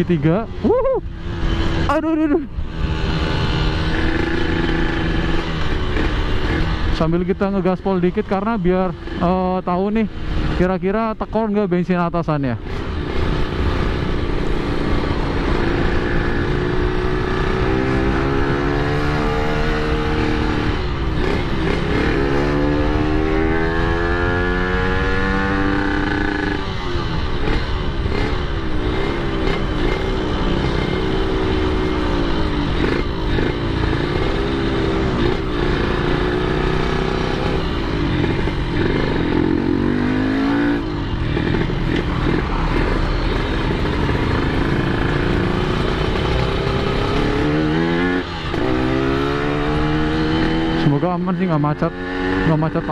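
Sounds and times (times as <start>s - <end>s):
motorcycle engine accelerating: 0.0s - 11.8s, 12.4s - 52.9s.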